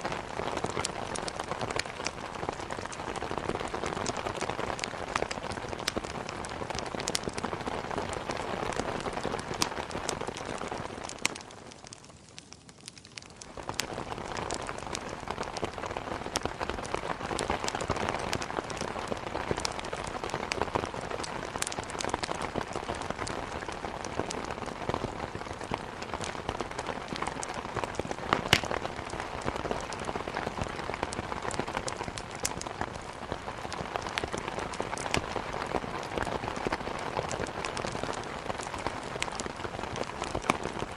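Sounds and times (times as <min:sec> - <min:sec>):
heavy rain against a window: 0:00.0 - 0:11.8, 0:13.4 - 0:40.9
wood fire crackling and popping: 0:00.0 - 0:40.9.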